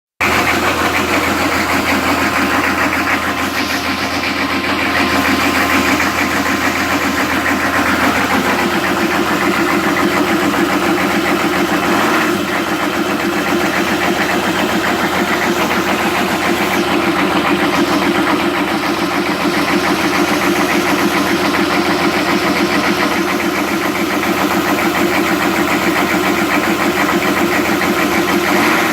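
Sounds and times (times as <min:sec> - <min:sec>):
diesel engine idling roughly: 0:00.2 - 0:28.9.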